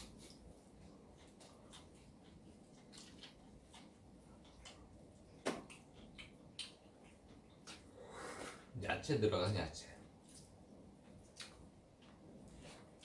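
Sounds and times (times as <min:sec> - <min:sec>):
chewing soft bread: 0:00.0 - 0:08.7, 0:10.0 - 0:13.0.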